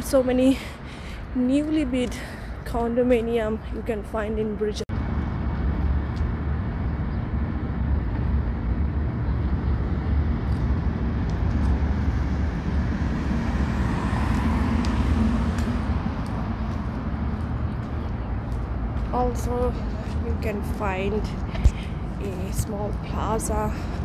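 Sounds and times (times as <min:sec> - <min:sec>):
street traffic rumble: 0:00.0 - 0:24.0
vehicle passing: 0:04.6 - 0:24.0.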